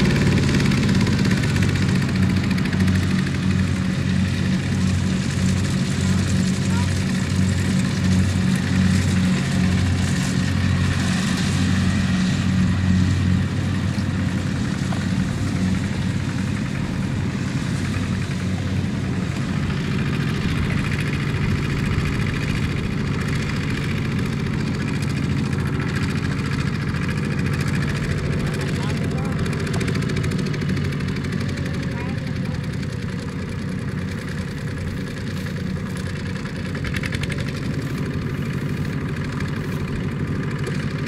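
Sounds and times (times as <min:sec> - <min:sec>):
diesel tractor engine under load: 0:00.0 - 0:41.0.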